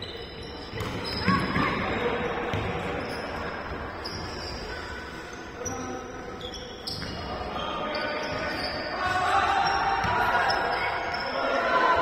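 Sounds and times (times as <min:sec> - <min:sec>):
shoes squeaking on court: 0:00.0 - 0:11.4
players' voices: 0:00.2 - 0:12.0.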